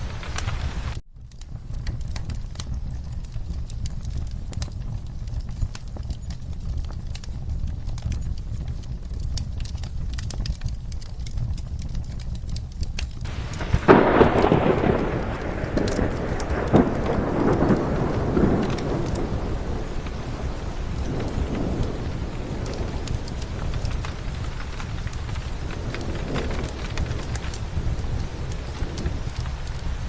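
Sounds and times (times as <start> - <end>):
steady rain: 0.0 - 30.0
thunderclap rumbling: 0.0 - 30.0
wood fire crackling: 0.0 - 30.0.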